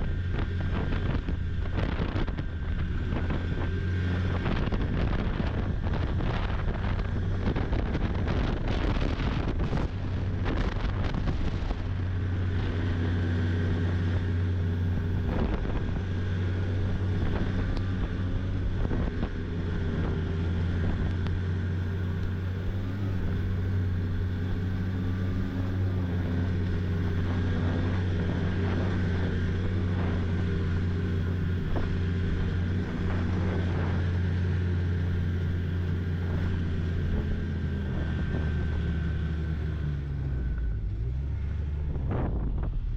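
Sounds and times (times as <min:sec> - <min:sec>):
snowmobile engine running: 0:00.0 - 0:42.9
wind noise on microphone: 0:00.0 - 0:42.9.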